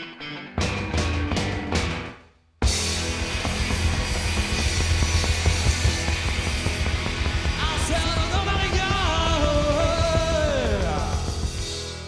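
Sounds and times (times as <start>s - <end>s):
rock and roll band playing: 0.0s - 12.0s.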